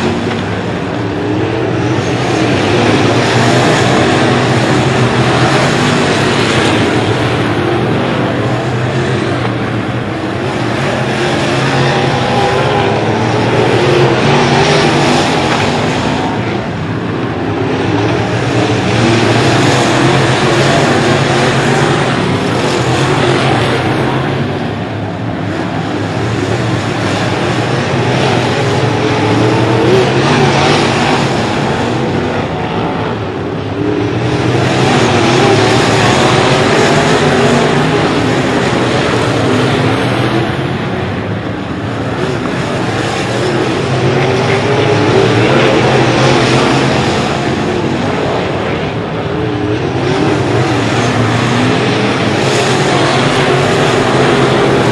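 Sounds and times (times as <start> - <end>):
race car engines running hard: 0.0 - 54.9.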